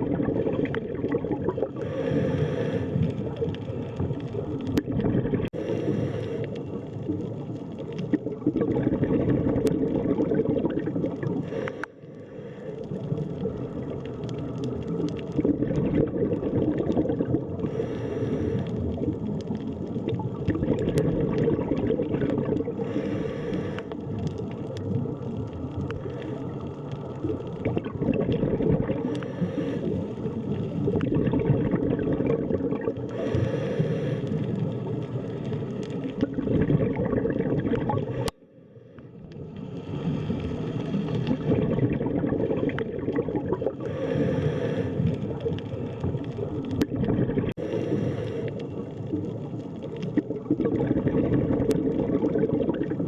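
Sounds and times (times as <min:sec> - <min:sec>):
underwater rumbling water wash: 0:00.0 - 0:53.0
water bubbling: 0:00.0 - 0:53.0.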